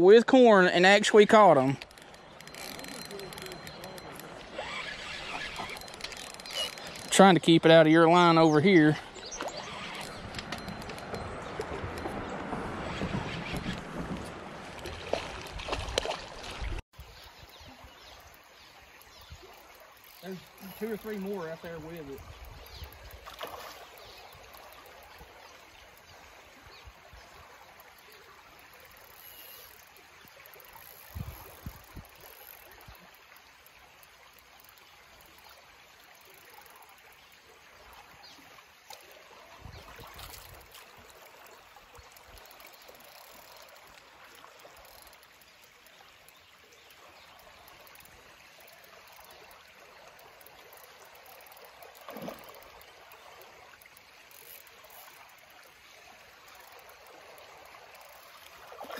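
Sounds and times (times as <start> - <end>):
creek water flowing: 0.0 - 58.9.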